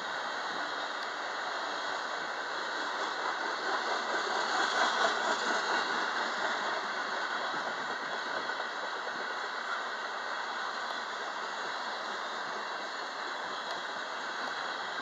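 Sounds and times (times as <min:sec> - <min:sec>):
freight train wheels on rail: 0:00.0 - 0:15.0.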